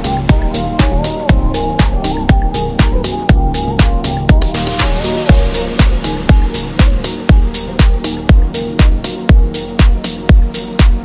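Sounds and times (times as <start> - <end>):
deep house music: 0.0 - 11.0
kick drum: 0.0 - 11.0.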